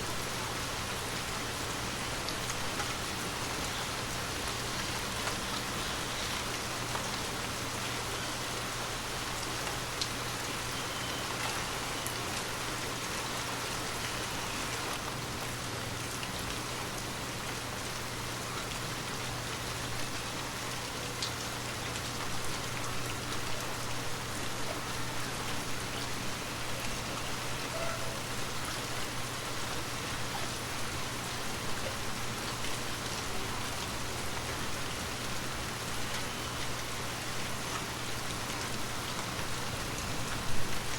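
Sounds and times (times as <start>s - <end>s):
gentle rain patter: 0.0s - 40.9s.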